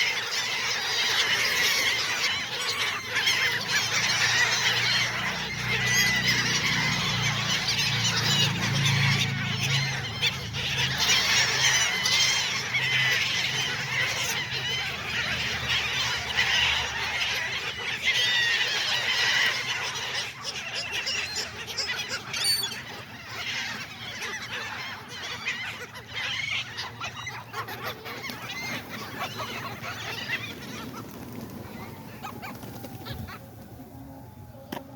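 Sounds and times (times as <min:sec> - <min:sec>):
gulls calling: 0:00.0 - 0:34.9.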